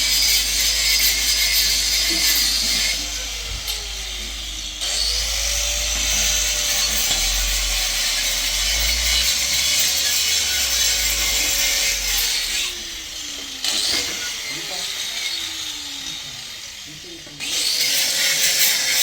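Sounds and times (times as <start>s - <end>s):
electric power tool running: 0.0s - 19.0s.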